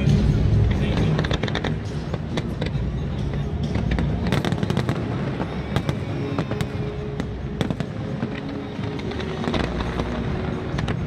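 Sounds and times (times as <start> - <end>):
fireworks bangs and crackles: 0.0 - 11.0
music with held notes: 0.0 - 11.0.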